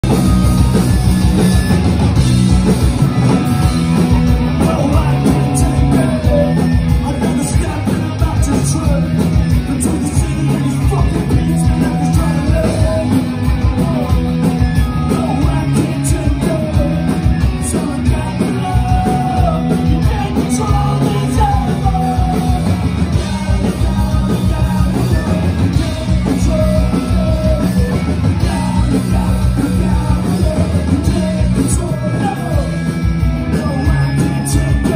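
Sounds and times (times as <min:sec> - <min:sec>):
distorted electric guitars: 0:00.0 - 0:34.9
drums: 0:00.0 - 0:34.9
person singing: 0:04.2 - 0:32.8, 0:33.4 - 0:34.9.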